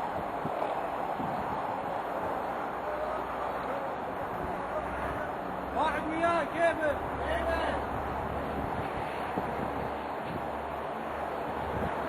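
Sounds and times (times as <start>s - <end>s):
wind noise on microphone: 0.0s - 6.0s, 6.8s - 12.0s.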